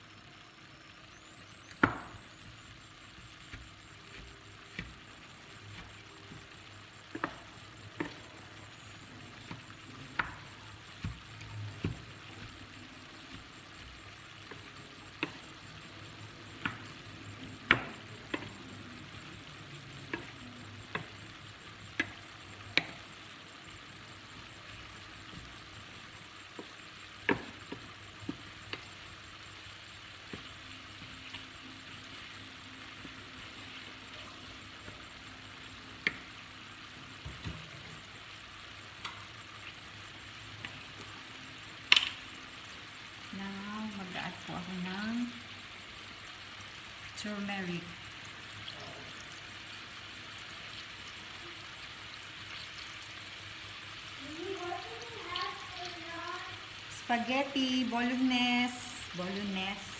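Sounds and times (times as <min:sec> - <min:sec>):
meat sizzling in a pan: 0:00.0 - 0:59.9.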